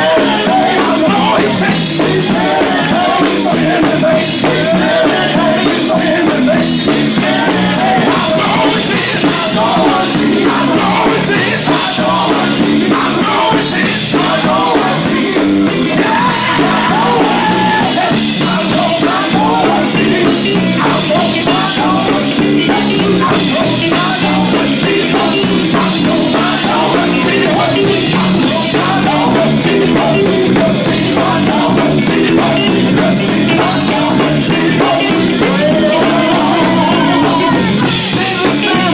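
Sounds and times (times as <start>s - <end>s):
gospel band with drum kit: 0.0s - 38.9s
person singing loudly: 0.0s - 38.9s.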